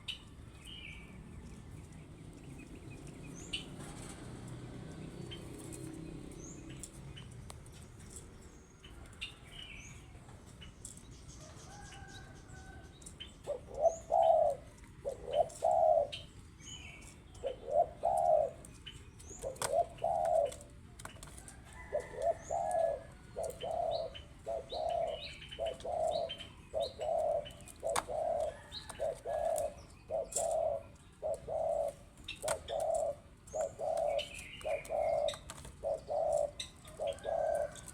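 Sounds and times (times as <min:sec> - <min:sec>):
small birds chirping: 0:00.0 - 0:37.9
dove cooing: 0:02.6 - 0:07.4, 0:11.4 - 0:37.9.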